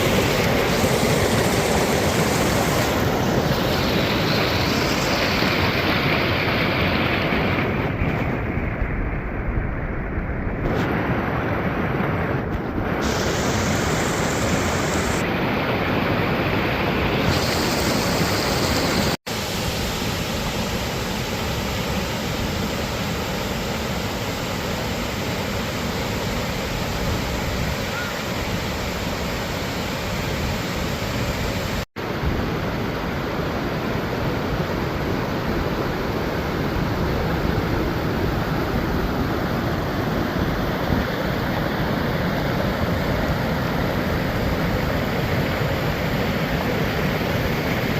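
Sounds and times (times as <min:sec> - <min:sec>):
waterfall roaring: 0:00.0 - 0:08.4, 0:10.6 - 0:47.9.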